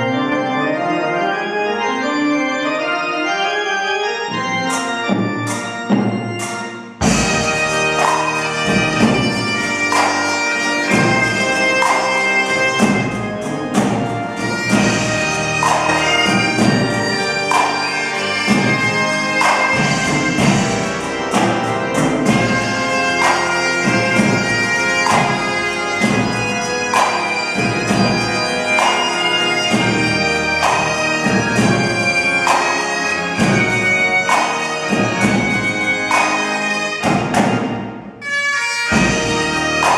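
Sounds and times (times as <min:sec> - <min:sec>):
bagpipe playing a tune: 0:00.0 - 0:39.9
pipe organ: 0:00.0 - 0:39.9
snare drums: 0:04.7 - 0:38.0, 0:38.9 - 0:39.9.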